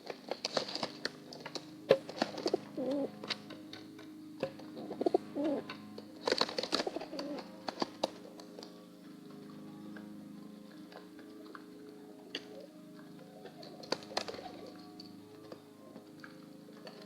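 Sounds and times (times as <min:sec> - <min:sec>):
pigeon cooing: 0:00.0 - 0:17.0.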